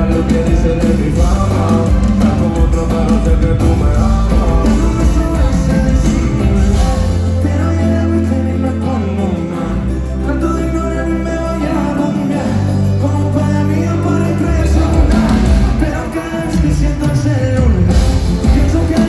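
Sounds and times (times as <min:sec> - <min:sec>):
heavy bass notes: 0:00.0 - 0:19.0
live pop band music: 0:00.0 - 0:19.0
person singing: 0:00.0 - 0:19.0.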